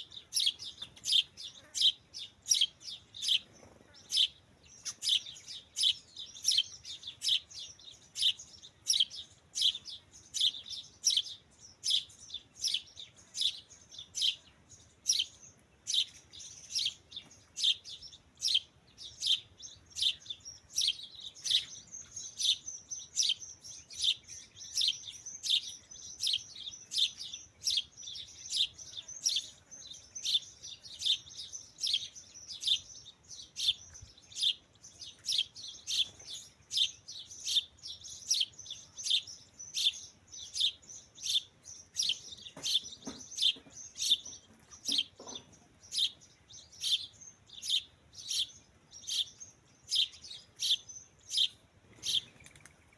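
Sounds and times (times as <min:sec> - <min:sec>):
birds chirping sharp calls: 0:00.0 - 0:52.9
faint bird twittering: 0:00.0 - 0:52.9.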